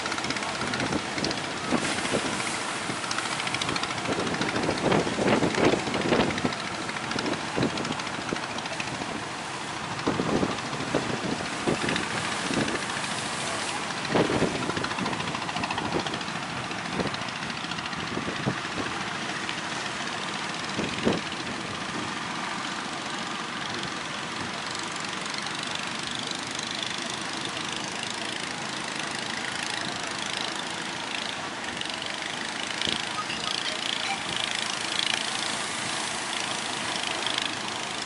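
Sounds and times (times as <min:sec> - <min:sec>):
boat engines running: 0:00.0 - 0:38.0.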